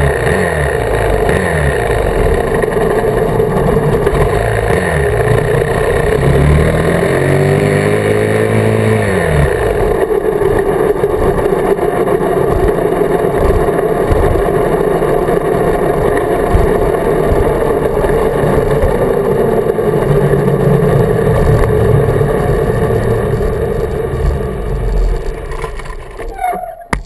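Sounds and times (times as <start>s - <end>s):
dirt bike engine running: 0.0s - 26.3s.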